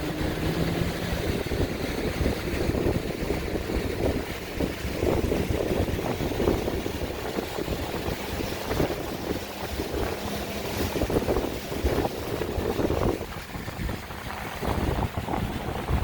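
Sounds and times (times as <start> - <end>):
water rushing against boat hull: 0.0 - 16.0
wind buffeting microphone: 0.0 - 16.0.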